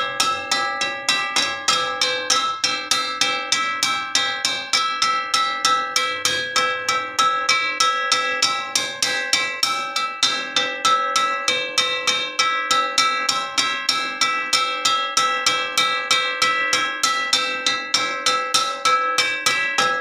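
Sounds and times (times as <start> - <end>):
metal wok struck ringing: 0.0 - 20.0.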